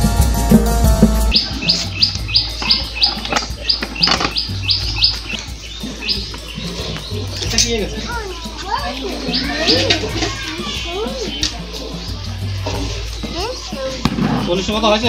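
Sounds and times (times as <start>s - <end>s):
background music: 0.0s - 15.0s
bird chirping: 0.6s - 15.0s.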